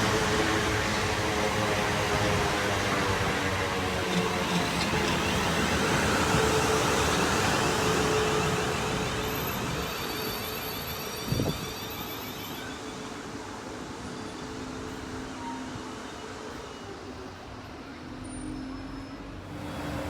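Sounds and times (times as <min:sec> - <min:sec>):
electric train running on rails: 0:00.0 - 0:20.0.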